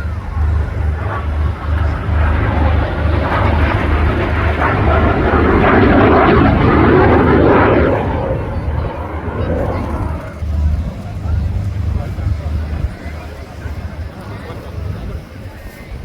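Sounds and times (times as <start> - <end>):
aircraft flying past: 0.0 - 16.0.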